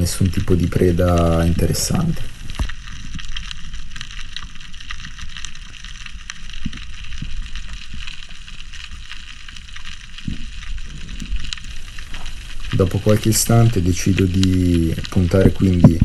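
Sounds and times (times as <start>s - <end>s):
fine underwater crackle of clicks: 0.0s - 16.0s
low rumble of moving water: 0.0s - 16.0s.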